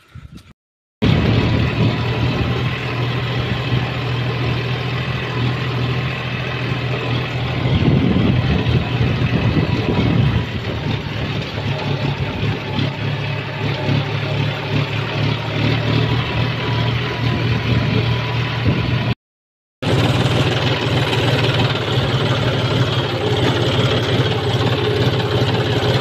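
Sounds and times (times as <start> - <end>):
tractor diesel engine running: 1.0 - 19.2, 19.8 - 26.0.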